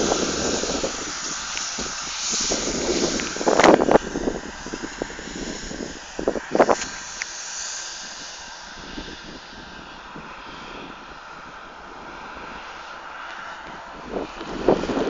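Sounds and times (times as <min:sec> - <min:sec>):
distant farm machine engine: 0:00.0 - 0:15.0
wind buffeting microphone: 0:00.0 - 0:15.0.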